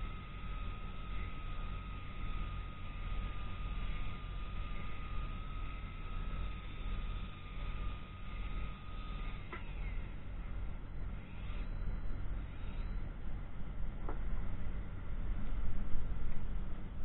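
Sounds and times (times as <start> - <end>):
high whine: 0.0 - 17.0.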